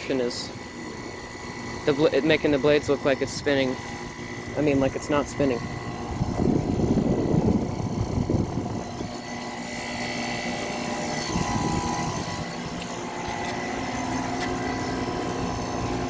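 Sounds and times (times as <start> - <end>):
air conditioner units humming: 0.0 - 16.0.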